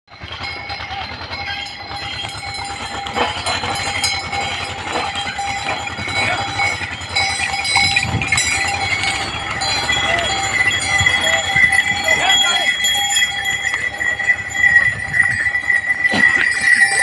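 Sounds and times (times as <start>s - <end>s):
animal bells ringing: 0.1s - 17.0s
diesel tractor engine chugging: 0.1s - 17.0s.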